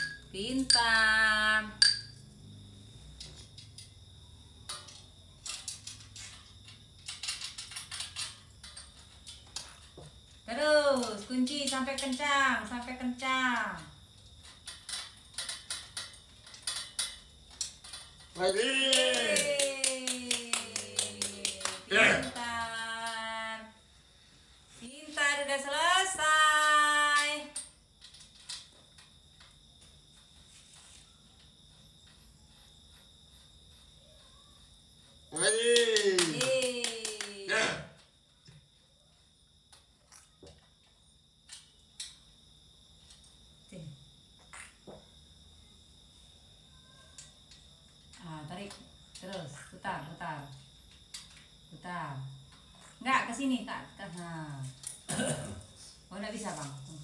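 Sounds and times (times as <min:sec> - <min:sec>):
faint cricket chirping: 0:00.0 - 0:57.0.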